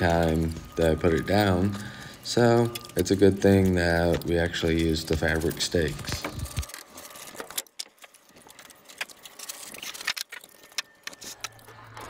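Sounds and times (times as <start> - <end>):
gravel crunching and rattling: 0.0 - 12.0.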